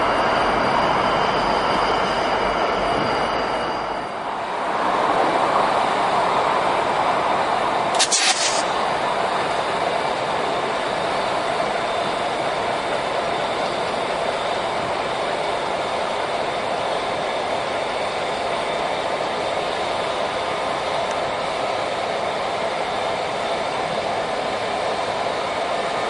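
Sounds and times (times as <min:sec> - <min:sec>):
diesel locomotives running: 0:00.0 - 0:26.0.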